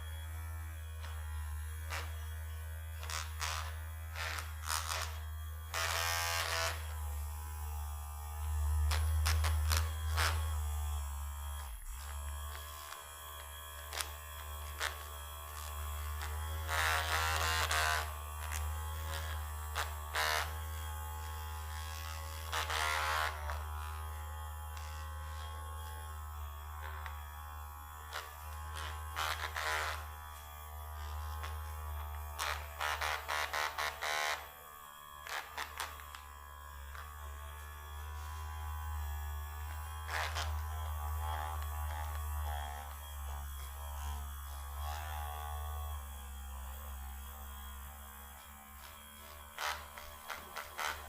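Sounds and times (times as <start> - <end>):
electric massager buzzing: 0.0 - 51.0.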